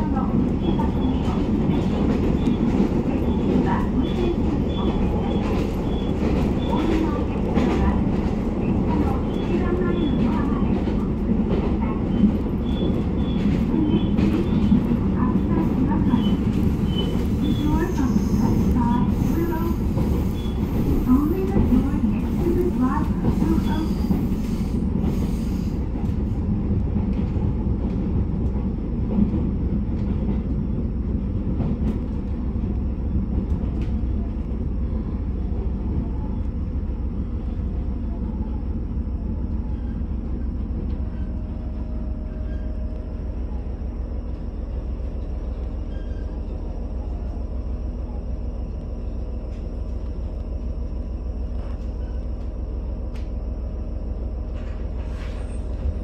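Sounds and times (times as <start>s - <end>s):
diesel train rumbling: 0.0s - 56.0s.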